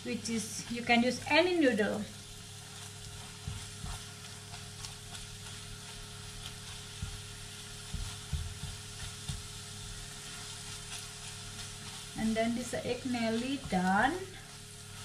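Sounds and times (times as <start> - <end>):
egg sizzling in a frying pan: 0.0 - 15.0.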